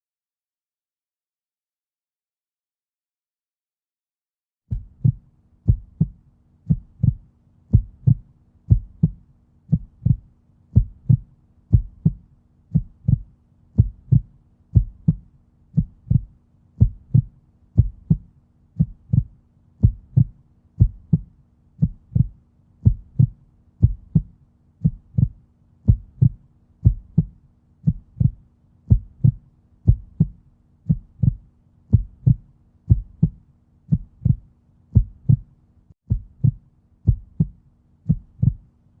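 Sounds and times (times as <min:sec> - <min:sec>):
heartbeat thumps: 0:04.7 - 0:38.7.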